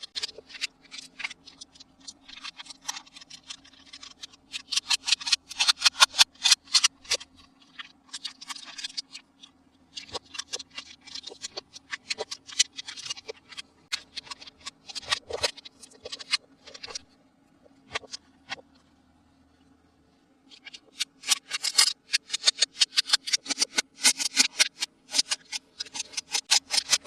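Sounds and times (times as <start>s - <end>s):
plastic packaging crackles and clicks: 0.0s - 17.1s, 20.6s - 27.0s
faint steady hum: 0.0s - 27.0s.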